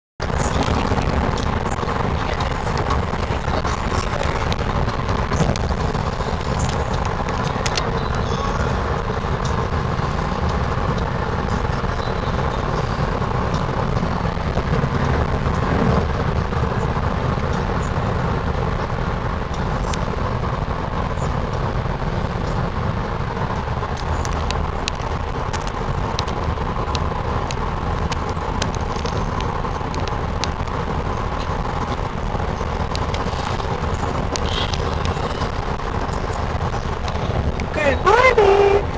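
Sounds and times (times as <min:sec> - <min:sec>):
car road noise rumble: 0:00.2 - 0:38.9.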